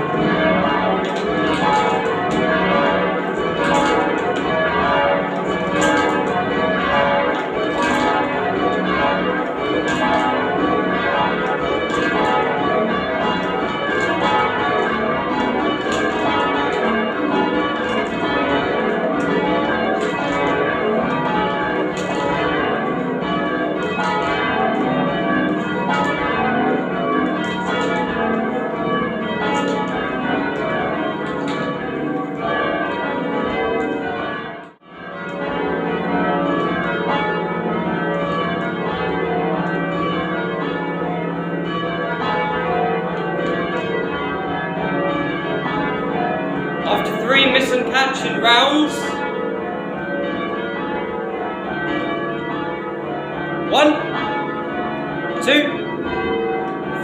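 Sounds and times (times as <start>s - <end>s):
church bells change ringing: 0.0s - 57.0s.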